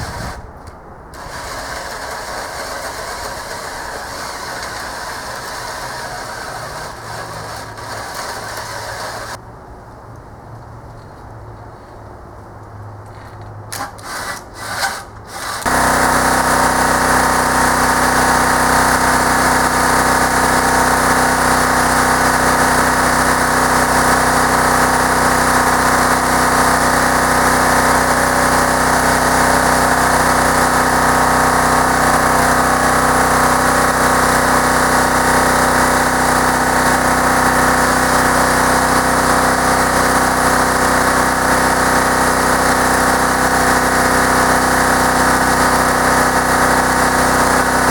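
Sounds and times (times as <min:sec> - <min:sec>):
motor running steadily: 0:00.0 - 0:00.4, 0:01.2 - 0:09.4, 0:14.1 - 0:47.9.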